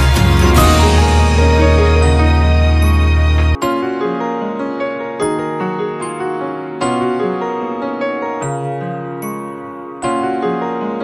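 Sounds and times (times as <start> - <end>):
background music chords: 0.0 - 10.8.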